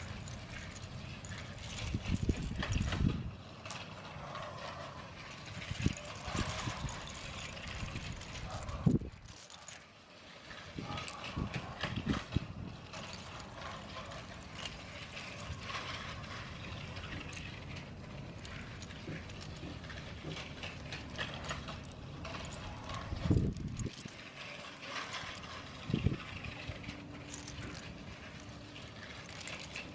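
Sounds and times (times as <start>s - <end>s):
plastic bricks clicking and rattling: 0.0s - 29.9s.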